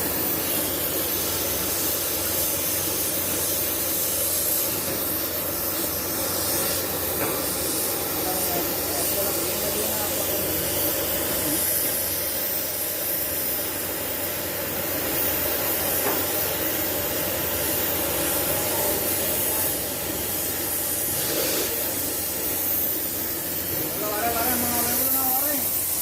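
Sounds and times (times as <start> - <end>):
welding hiss: 0.0 - 26.0.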